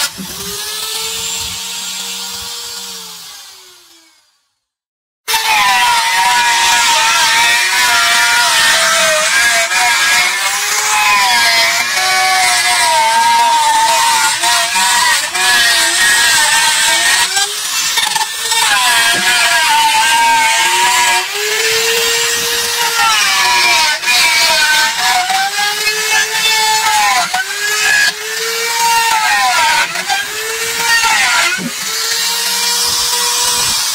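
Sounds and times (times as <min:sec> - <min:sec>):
angle grinder grinding wood: 0:00.0 - 0:04.3, 0:05.3 - 0:33.9.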